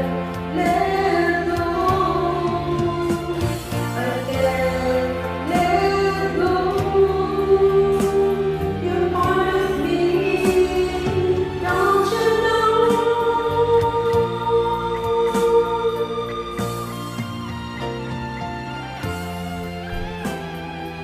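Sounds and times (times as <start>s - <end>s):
backing track music: 0.0s - 21.0s
person singing karaoke: 0.0s - 21.0s.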